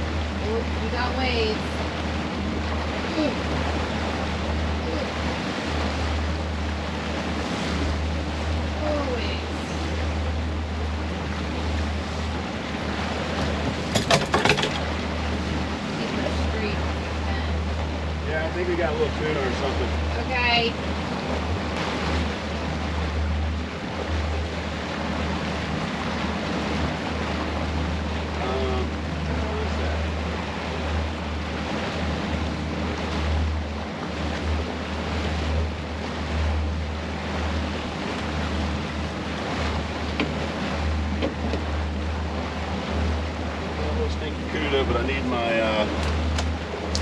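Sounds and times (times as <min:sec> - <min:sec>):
outboard motors running: 0:00.0 - 0:47.0
water rushing in wake: 0:00.0 - 0:47.0.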